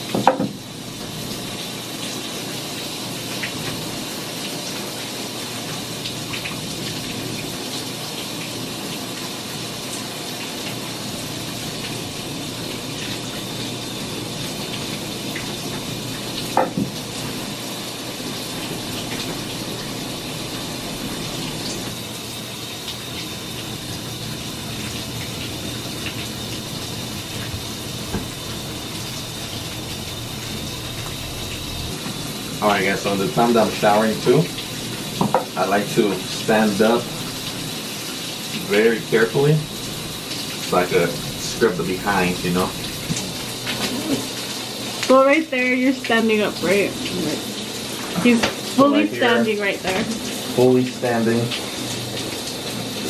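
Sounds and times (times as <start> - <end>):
shower water running: 0.0 - 53.0.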